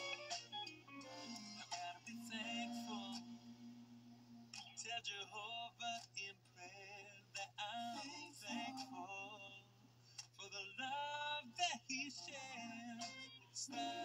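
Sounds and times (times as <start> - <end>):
steady low hum: 0.1 - 14.0
song with singing: 1.2 - 9.7, 10.4 - 14.0.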